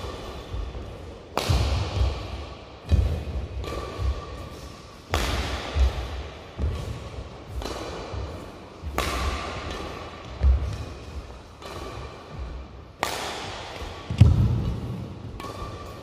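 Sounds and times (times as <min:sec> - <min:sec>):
racket hitting shuttlecock: 0:00.0 - 0:16.0.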